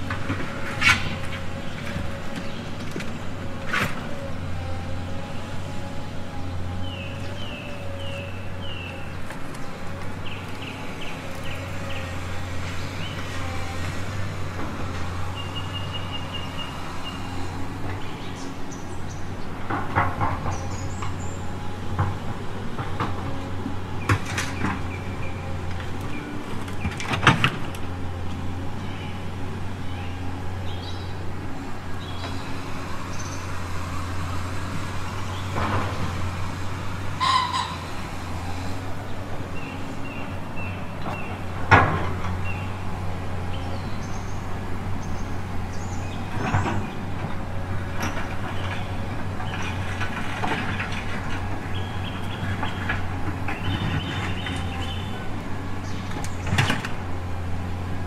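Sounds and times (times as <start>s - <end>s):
model dumper humming: 0.0s - 58.0s.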